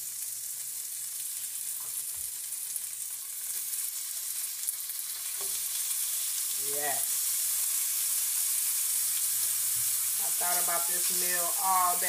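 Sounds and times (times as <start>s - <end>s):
bacon sizzling in a skillet: 0.0s - 12.0s.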